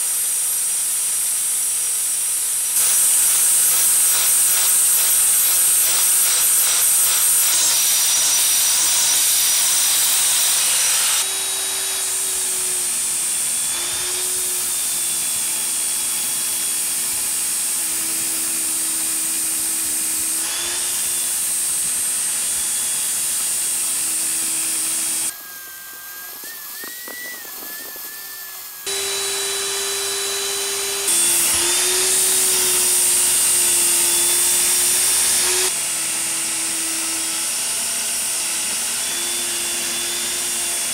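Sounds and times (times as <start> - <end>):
angle grinder sanding metal: 0.0 - 37.8
sanding disc grinding metal: 2.8 - 35.8.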